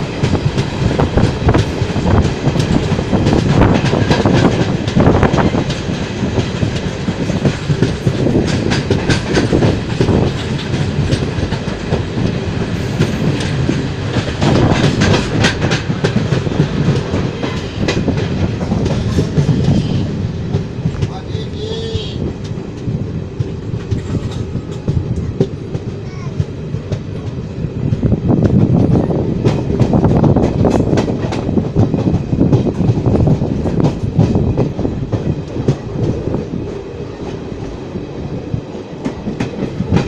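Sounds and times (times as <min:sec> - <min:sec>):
train wheels rumbling on rail: 0:00.0 - 0:40.0
wheels clickety-clack over track: 0:00.0 - 0:40.0.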